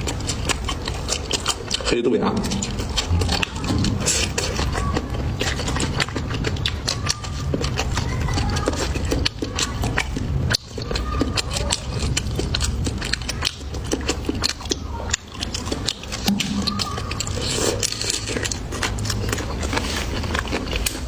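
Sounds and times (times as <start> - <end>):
chewing food crunches: 0.0 - 21.0
wet mouth clicks: 0.0 - 21.0.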